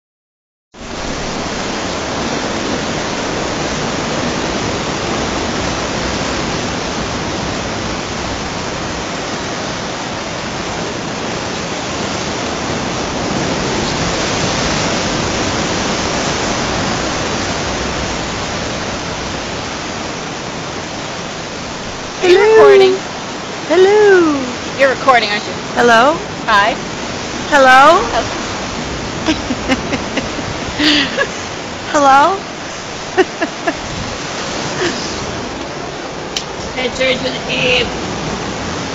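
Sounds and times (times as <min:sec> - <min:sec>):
sea waves breaking on rocks: 0:00.8 - 0:38.9.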